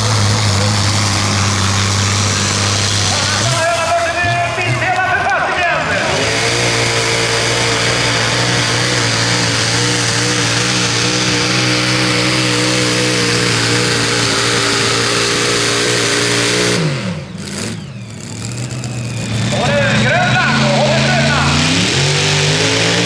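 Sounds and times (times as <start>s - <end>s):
tractor engine at high revs: 0.0s - 23.0s.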